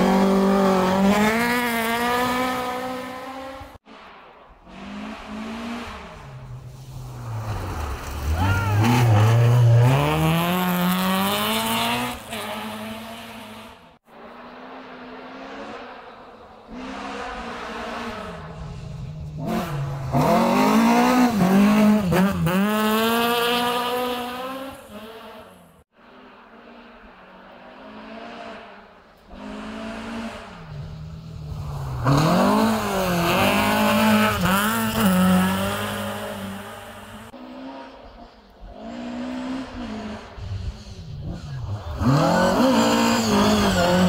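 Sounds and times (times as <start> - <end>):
rally car engine revving past: 0.0 - 25.6, 26.6 - 44.0.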